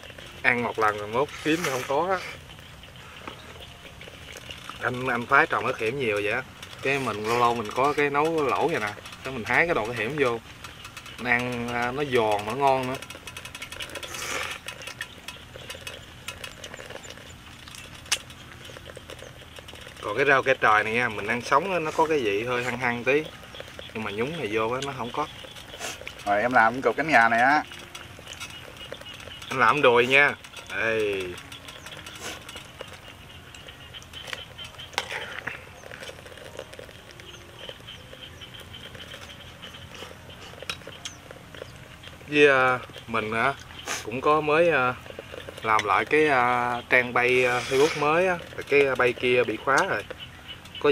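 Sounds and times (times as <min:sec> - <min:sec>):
faint high chirping: 0:00.0 - 0:50.9
utensils clinking on metal pot: 0:00.0 - 0:50.9
leafy greens crackling as torn: 0:01.0 - 0:50.2.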